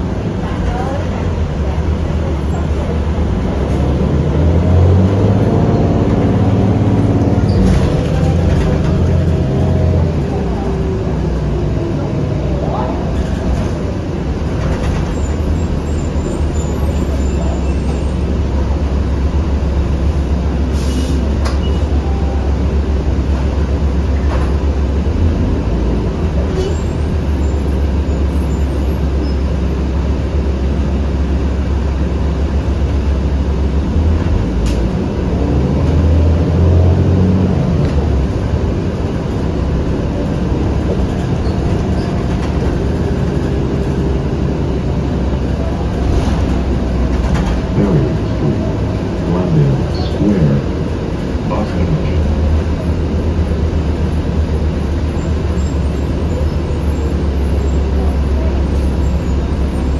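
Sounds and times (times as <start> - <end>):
bus engine and road drone: 0.0 - 59.9.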